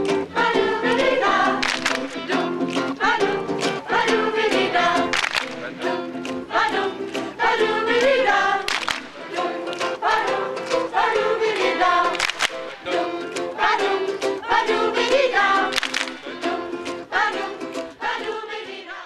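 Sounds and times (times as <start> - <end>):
strummed acoustic guitar: 0.0 - 18.6
group of voices singing: 0.0 - 19.0.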